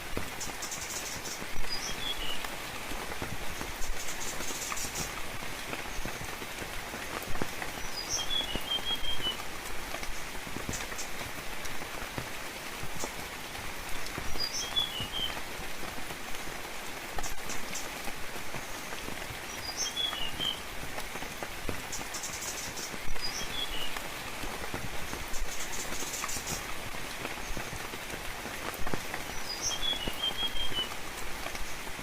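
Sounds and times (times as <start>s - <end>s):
steady rain in forest: 0.0s - 32.0s.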